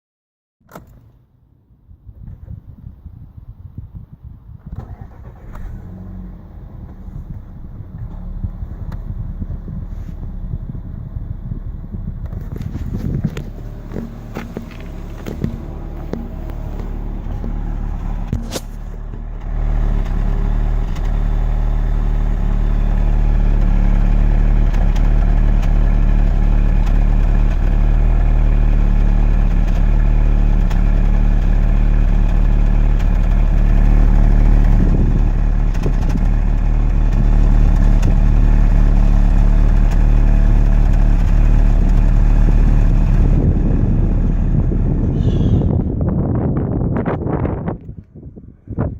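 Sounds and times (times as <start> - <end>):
car engine idling: 2.8 - 48.8.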